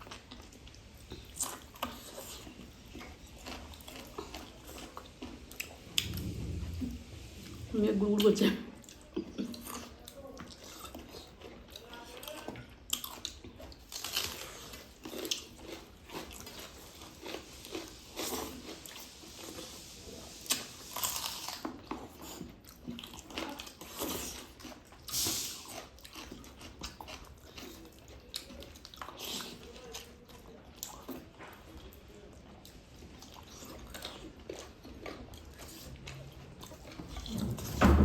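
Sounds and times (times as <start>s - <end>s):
eating smacks and crunches: 0.0s - 7.6s, 8.8s - 37.4s
people chewing and eating: 0.0s - 38.0s.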